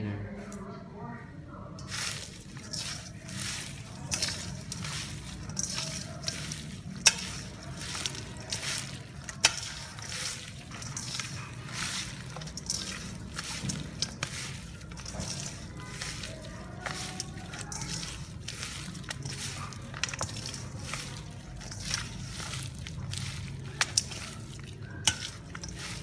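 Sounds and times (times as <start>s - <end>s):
wet squishing of raw meat: 1.8s - 26.0s.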